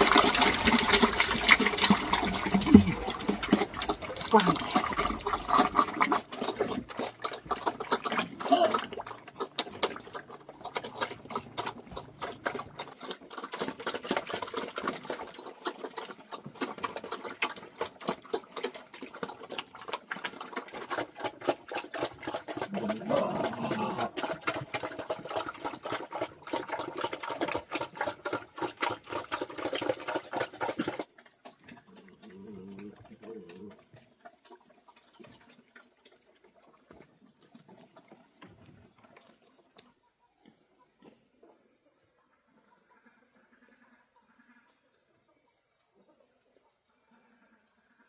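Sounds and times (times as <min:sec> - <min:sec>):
animals crunching while chewing: 0:00.0 - 0:41.6.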